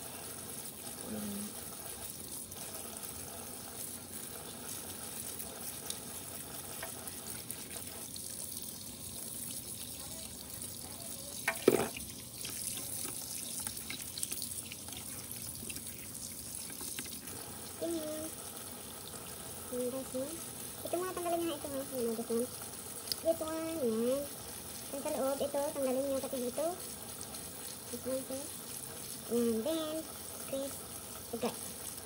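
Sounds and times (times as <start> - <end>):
tap water running into sink: 0.0 - 32.0.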